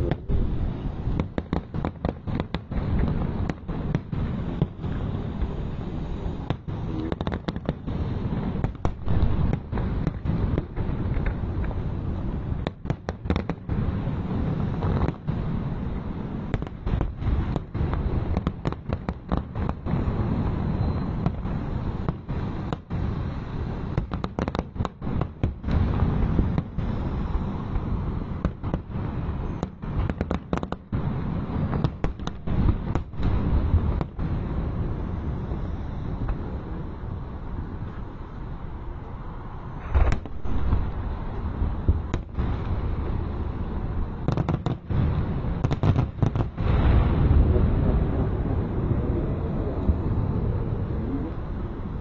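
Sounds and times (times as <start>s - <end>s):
fireworks bangs and crackling: 0.0s - 50.7s.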